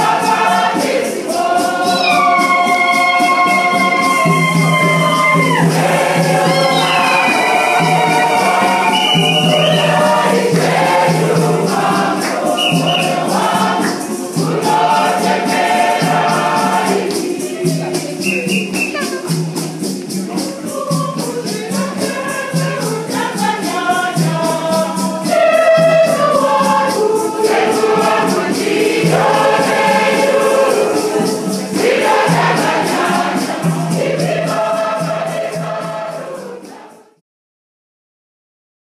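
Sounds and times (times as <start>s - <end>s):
choir singing: 0.0s - 37.2s
shakers keeping a beat: 0.0s - 37.2s.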